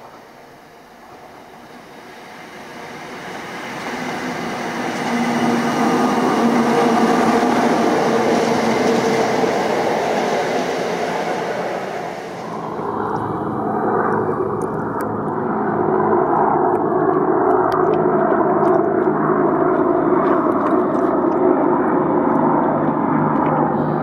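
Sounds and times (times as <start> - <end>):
low hum: 0.0 - 24.0
train passing close by: 0.0 - 24.0.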